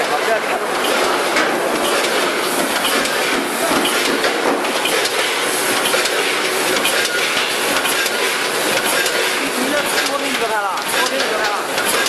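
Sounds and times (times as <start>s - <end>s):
packaging machine clattering: 0.0s - 12.0s.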